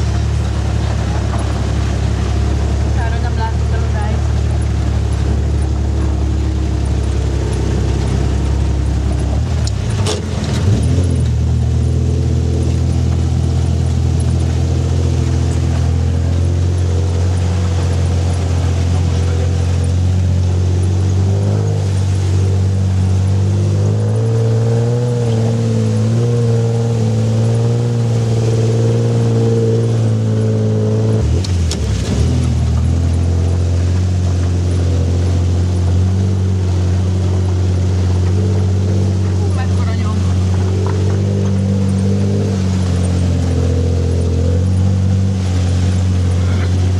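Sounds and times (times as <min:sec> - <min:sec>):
off-road vehicle engine revving: 0:00.0 - 0:46.9.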